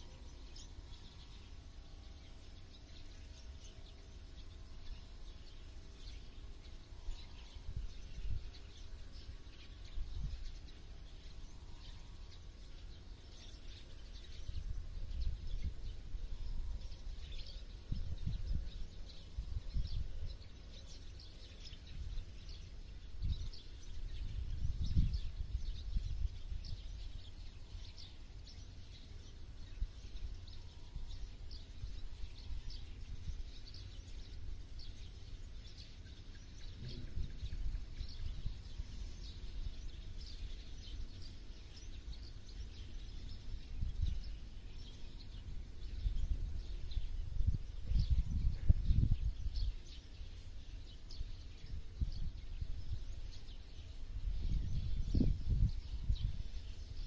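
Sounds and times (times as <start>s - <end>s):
low uneven rumble: 0.0s - 57.0s
small birds chirping: 0.0s - 57.0s.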